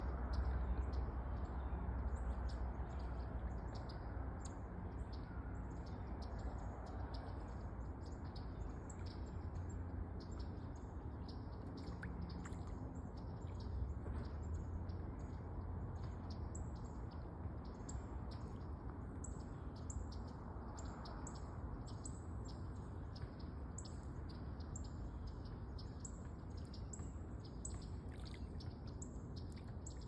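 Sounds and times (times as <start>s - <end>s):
small birds chirping: 0.0s - 30.0s
steady low rumble: 0.0s - 30.0s.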